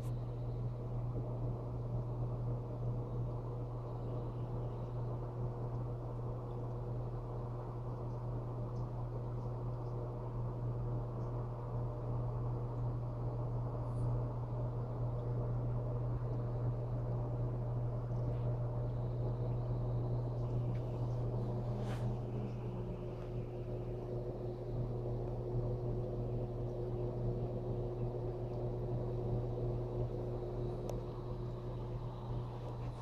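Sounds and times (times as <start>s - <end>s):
aquarium pump humming: 0.0s - 33.0s.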